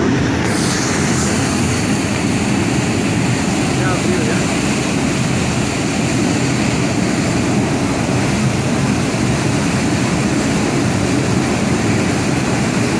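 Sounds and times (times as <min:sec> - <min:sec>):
water gushing from dam outlet: 0:00.0 - 0:12.9.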